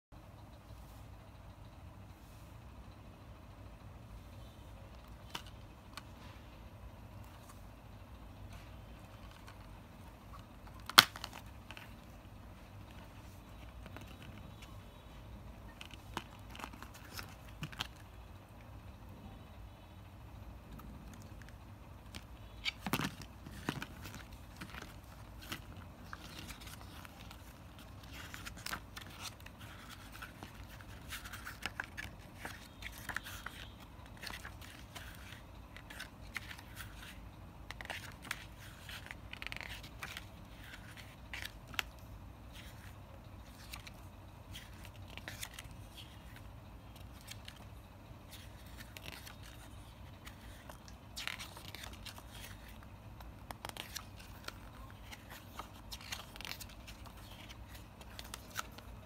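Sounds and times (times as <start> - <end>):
booklet pages turning: 5.0 - 6.5, 8.4 - 18.3, 20.7 - 59.0.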